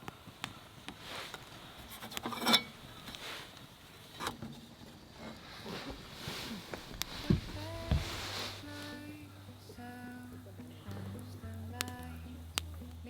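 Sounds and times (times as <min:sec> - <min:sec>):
objects being handled: 0:00.3 - 0:12.9.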